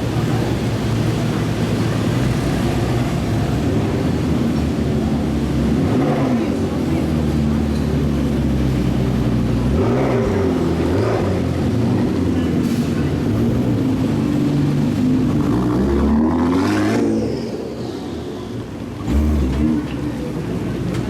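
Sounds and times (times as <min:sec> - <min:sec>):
supercar engines revving: 0:00.0 - 0:21.0.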